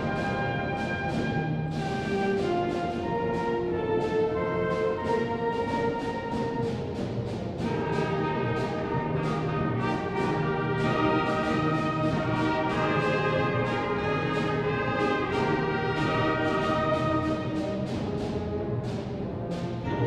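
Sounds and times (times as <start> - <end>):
orchestral brass music: 0.0 - 20.0.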